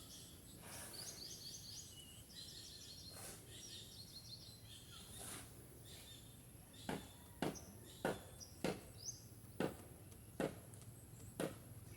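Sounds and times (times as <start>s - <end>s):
songbird chirping: 0.0s - 11.9s.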